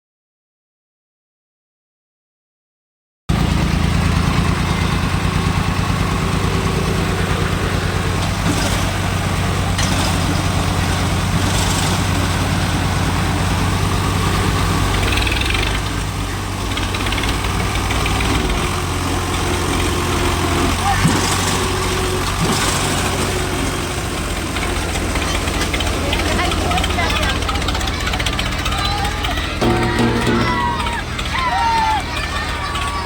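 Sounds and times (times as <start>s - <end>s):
diesel tractor engine running: 3.3s - 33.0s.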